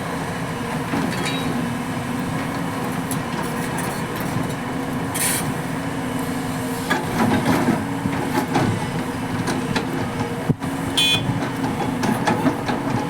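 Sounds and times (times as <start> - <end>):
excavator diesel engine under load: 0.0 - 13.0.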